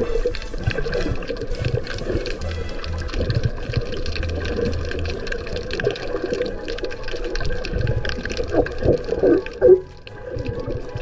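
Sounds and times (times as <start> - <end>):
crackling clicks underwater: 0.0 - 11.0
muffled underwater rush: 0.0 - 11.0.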